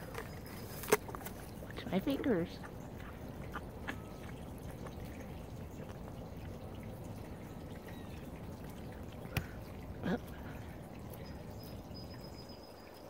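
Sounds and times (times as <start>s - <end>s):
deer chewing apple: 0.0s - 12.2s.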